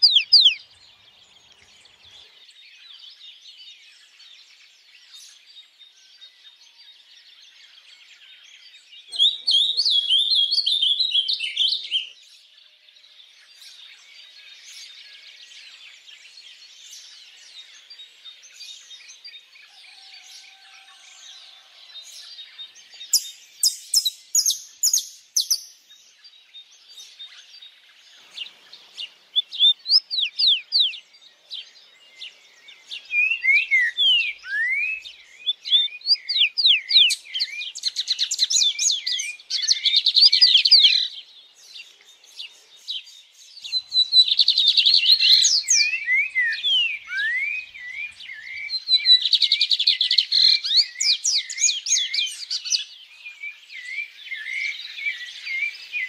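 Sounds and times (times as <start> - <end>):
birds singing: 0.0 - 56.0.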